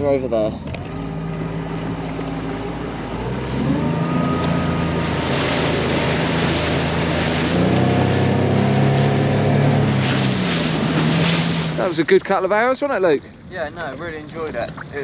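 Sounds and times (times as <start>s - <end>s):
outboard motor revving: 0.0s - 15.0s
water and wind hissing: 0.0s - 15.0s.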